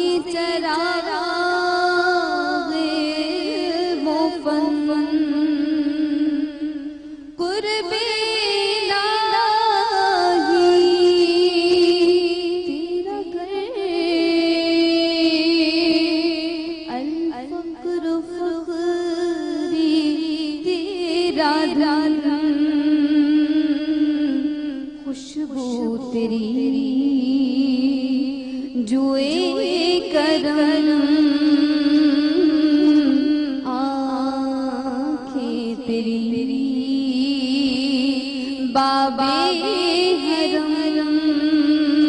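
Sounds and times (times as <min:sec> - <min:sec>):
woman singing into a microphone: 0:00.0 - 0:42.0.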